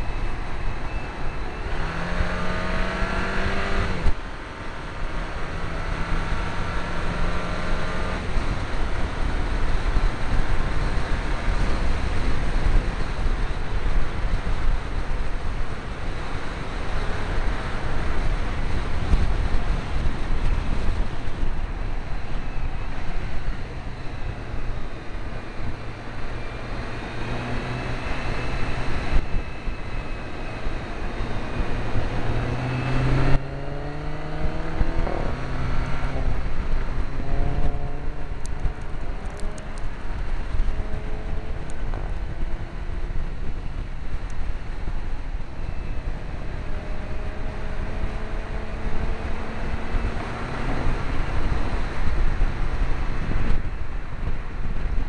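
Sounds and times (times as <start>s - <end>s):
car engine at full throttle: 0.0s - 55.0s
wind buffeting microphone: 5.1s - 55.0s.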